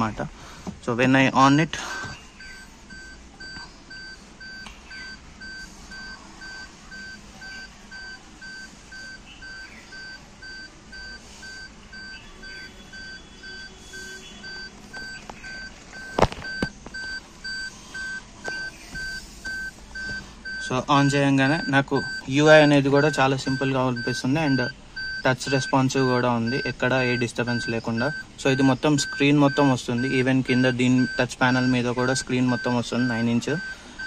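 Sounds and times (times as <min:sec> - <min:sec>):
car warning chime beeping: 0:01.7 - 0:34.0.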